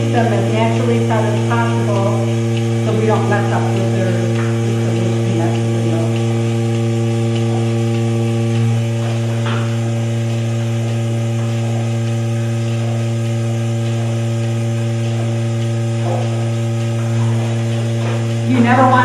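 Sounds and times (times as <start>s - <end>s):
milking machine electric hum: 0.0s - 19.0s.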